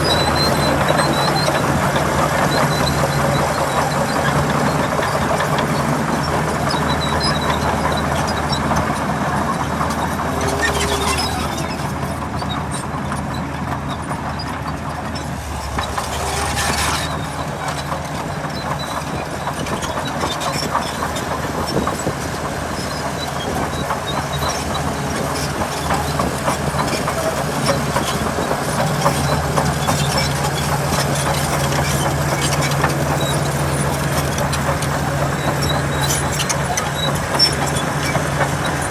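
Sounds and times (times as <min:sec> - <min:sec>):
bulldozer diesel engine droning: 0:00.0 - 0:38.9
steel tracks clattering: 0:00.0 - 0:38.9.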